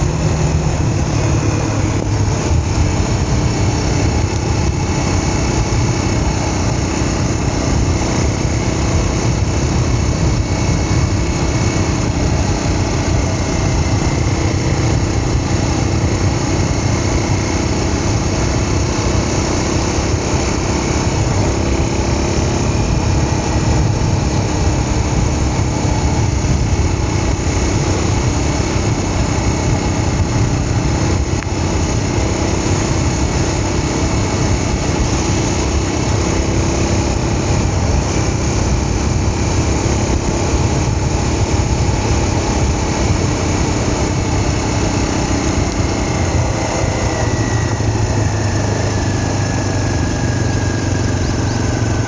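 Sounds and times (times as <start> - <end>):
small vehicle engine running: 0.0 - 52.0.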